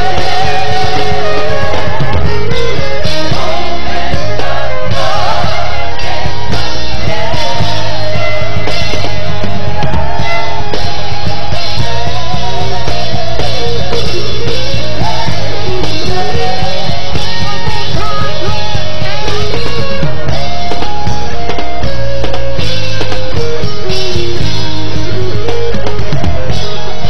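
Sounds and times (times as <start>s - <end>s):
live gospel band instrumental: 0.0s - 27.0s
sliding lead melody: 0.0s - 27.0s.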